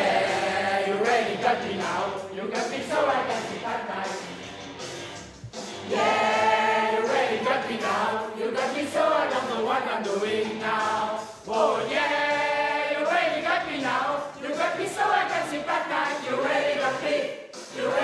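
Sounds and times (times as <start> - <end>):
mixed choir singing a rock song: 0.0 - 4.8, 5.7 - 18.0.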